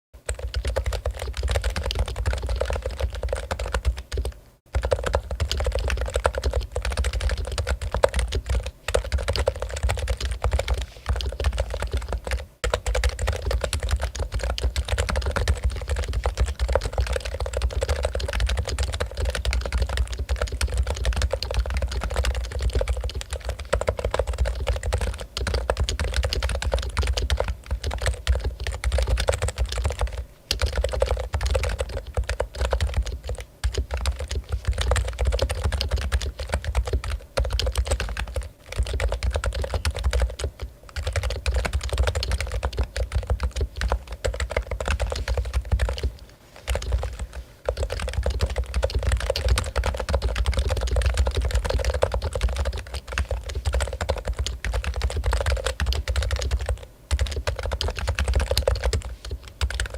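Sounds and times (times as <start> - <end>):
keyboard typing: 0.2 - 59.9.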